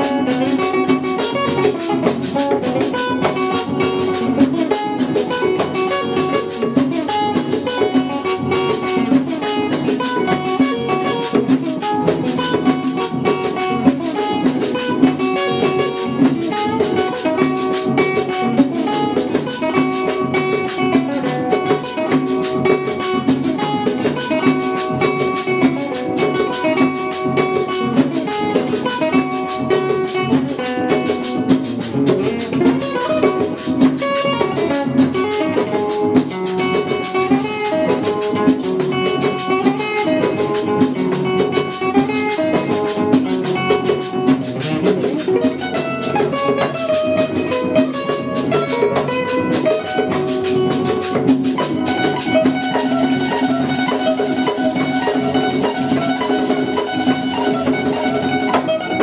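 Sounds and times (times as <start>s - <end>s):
instrumental music with drums: 0.0s - 59.0s.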